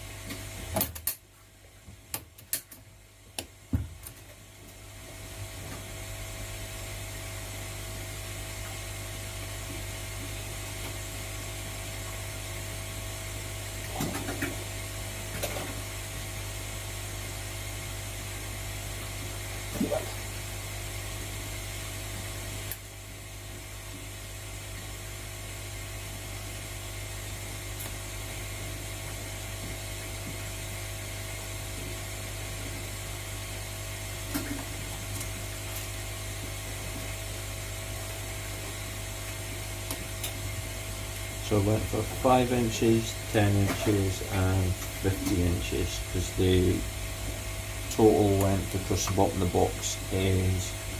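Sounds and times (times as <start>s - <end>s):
mechanical hum: 0.0s - 50.9s.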